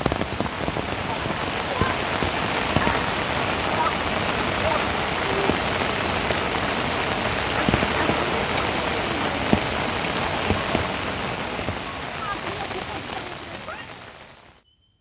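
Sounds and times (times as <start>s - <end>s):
single raindrops striking: 0.0s - 14.5s
rain falling: 0.0s - 14.6s.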